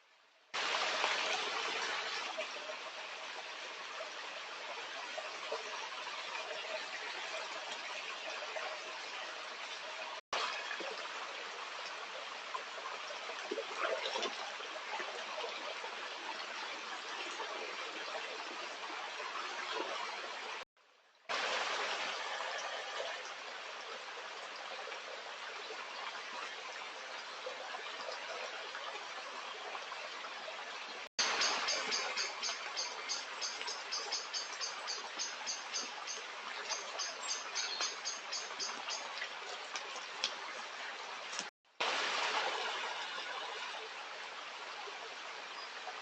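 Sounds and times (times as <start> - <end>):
stream water running over stones: 0.5 - 46.0.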